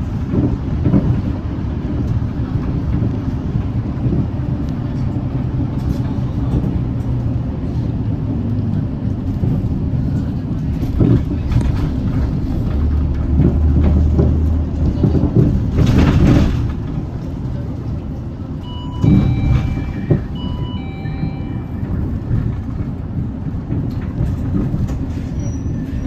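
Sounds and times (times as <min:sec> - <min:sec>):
bus engine low drone: 0:00.0 - 0:26.0.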